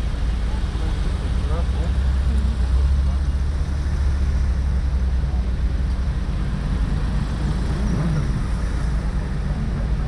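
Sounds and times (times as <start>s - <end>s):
car engines passing: 0.0s - 10.0s.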